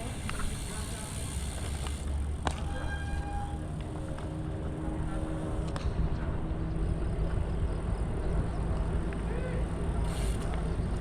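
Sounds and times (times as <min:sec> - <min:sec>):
wind and road noise rumble: 0:00.0 - 0:11.0.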